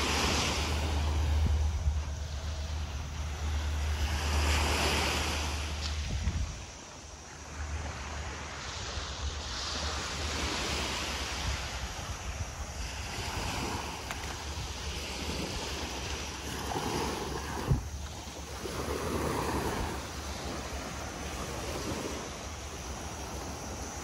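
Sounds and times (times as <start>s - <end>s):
small waves breaking on beach: 0.0s - 24.0s
wind buffeting microphone: 0.0s - 24.0s.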